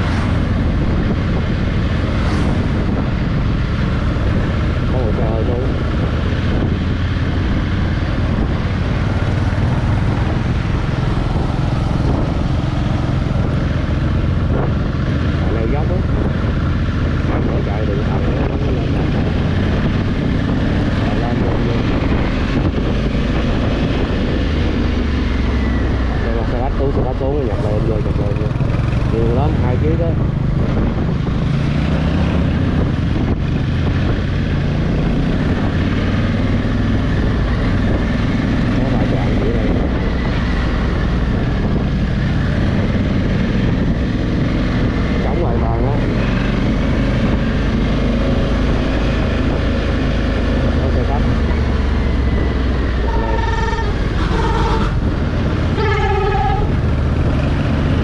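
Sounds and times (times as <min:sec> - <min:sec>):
road noise: 0:00.0 - 0:58.0
wind: 0:00.0 - 0:58.0.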